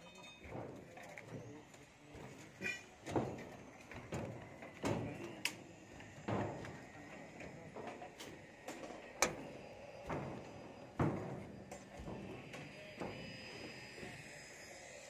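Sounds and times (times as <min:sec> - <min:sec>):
footsteps on shuttering: 0:00.4 - 0:14.2.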